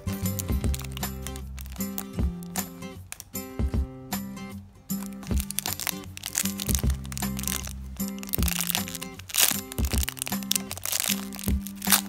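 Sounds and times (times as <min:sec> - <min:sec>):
plastic wrapper crinkling: 0:00.0 - 0:03.4, 0:04.9 - 0:12.0
background music: 0:00.0 - 0:12.0.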